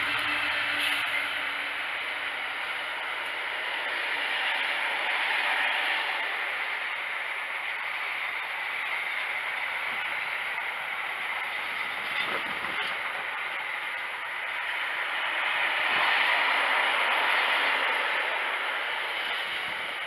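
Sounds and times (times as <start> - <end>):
train wheels rolling on track: 0.0 - 20.0.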